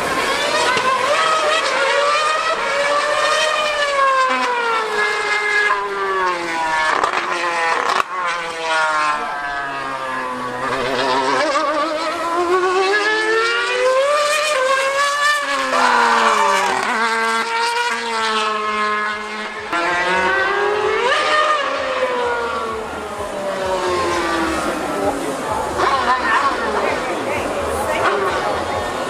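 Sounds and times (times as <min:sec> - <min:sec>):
racing car engine screaming: 0:00.0 - 0:29.0.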